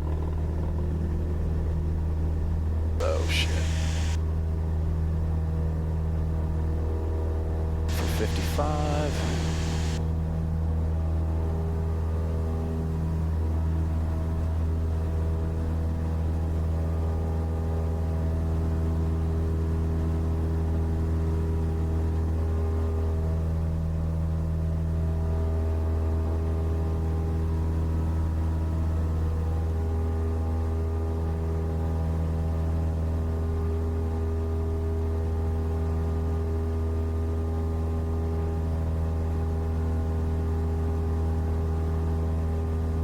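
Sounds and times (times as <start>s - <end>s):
propeller plane engine droning: 0.0s - 43.0s.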